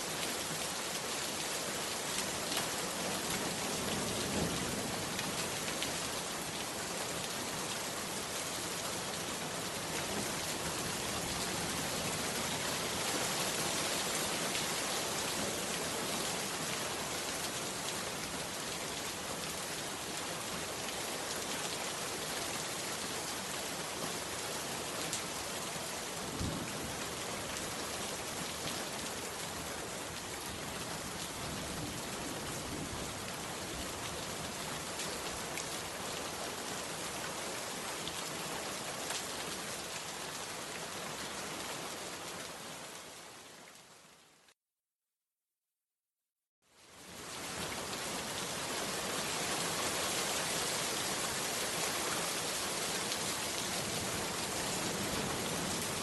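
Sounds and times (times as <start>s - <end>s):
heavy rain falling: 0.0s - 43.8s, 47.0s - 56.0s.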